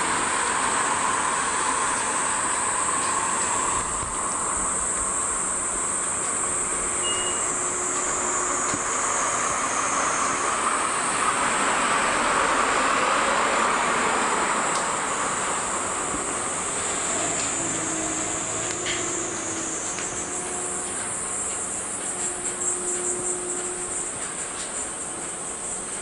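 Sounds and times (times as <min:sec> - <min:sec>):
broad rushing noise: 0:00.0 - 0:26.0
cicadas buzzing: 0:00.0 - 0:26.0.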